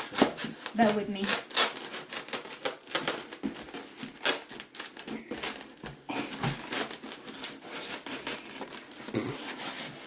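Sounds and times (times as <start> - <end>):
styrofoam packaging rustling: 0.0 - 10.0.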